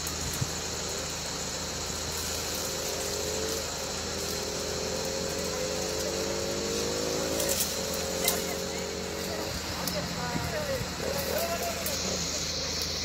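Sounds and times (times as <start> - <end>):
steady high hiss: 0.0 - 13.0
vehicle engine running: 0.0 - 13.0.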